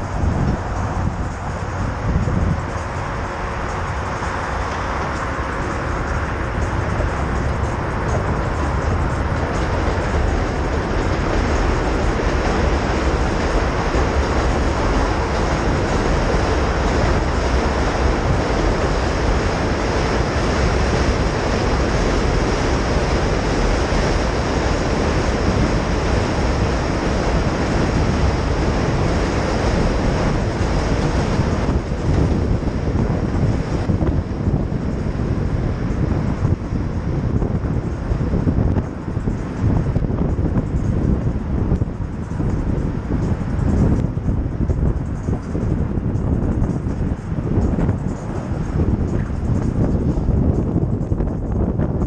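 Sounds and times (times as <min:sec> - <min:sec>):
subway train rumbling: 0:00.0 - 0:52.0
wind on camera microphone: 0:00.0 - 0:52.0.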